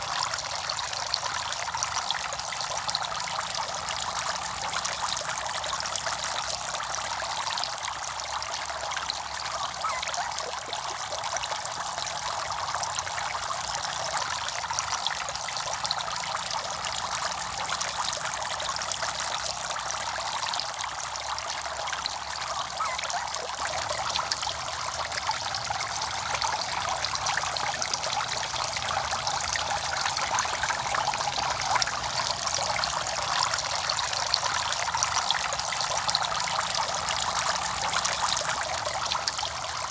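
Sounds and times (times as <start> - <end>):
fountain jets splashing into pond: 0.0 - 39.9.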